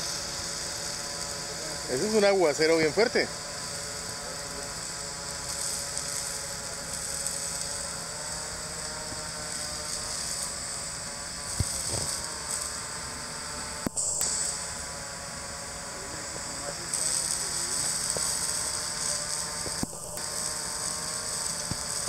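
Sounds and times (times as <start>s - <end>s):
quadcopter rotors buzzing: 0.0s - 22.0s
water spray hissing: 0.0s - 22.0s.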